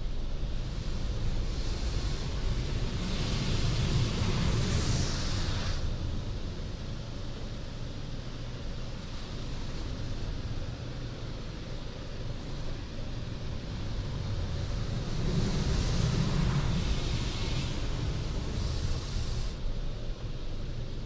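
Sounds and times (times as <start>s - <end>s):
car wash machinery rumbling: 0.1s - 21.0s.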